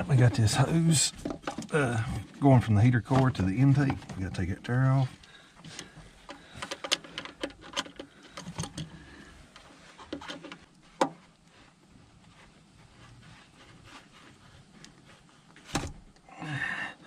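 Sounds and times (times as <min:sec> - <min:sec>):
faint rustling: 0:00.0 - 0:16.4.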